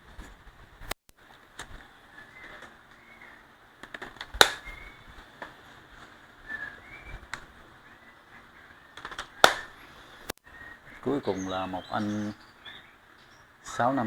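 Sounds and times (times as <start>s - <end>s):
faint bird chirps: 1.7s - 3.7s, 4.5s - 14.0s.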